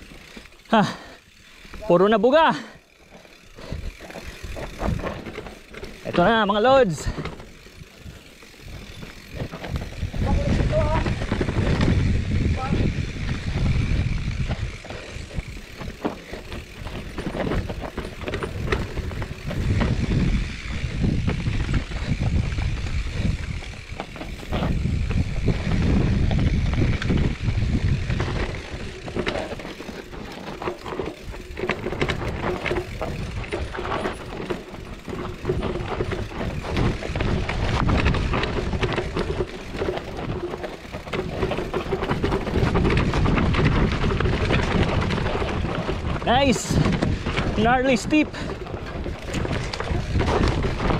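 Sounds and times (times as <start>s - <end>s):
bike rattling and clicking: 0.0s - 50.9s
bike tyres rolling over dirt: 0.0s - 50.9s.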